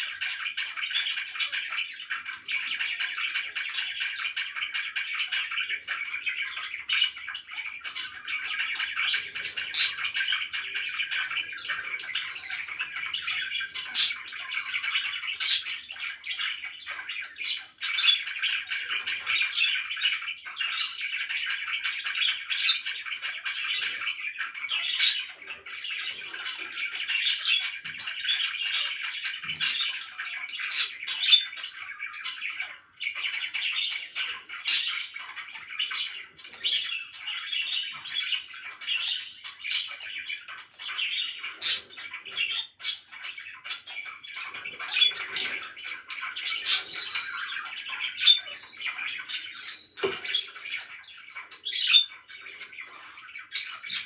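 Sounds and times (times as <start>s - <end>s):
budgerigars chattering: 0.0s - 54.0s
sharp bird chirps and squawks: 0.0s - 54.0s.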